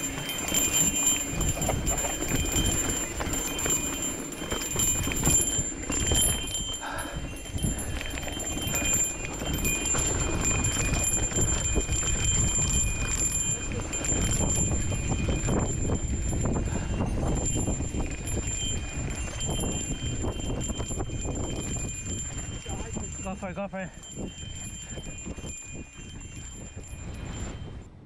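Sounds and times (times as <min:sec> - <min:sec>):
bike rattling over bumps: 0:00.0 - 0:27.9
bike tyres on loose dirt: 0:00.0 - 0:27.9
wind rumbling on microphone: 0:00.0 - 0:28.0.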